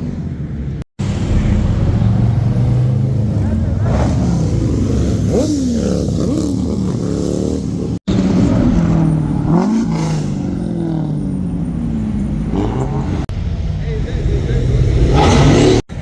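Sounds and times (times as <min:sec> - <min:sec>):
car engines revving and passing: 0:00.0 - 0:16.0.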